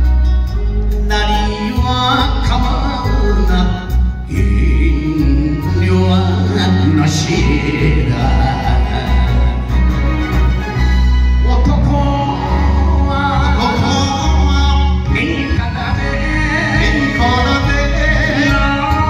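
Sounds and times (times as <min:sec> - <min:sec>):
backing music with bass line: 0:00.0 - 0:19.0
man singing into microphone: 0:01.0 - 0:10.1, 0:11.4 - 0:19.0.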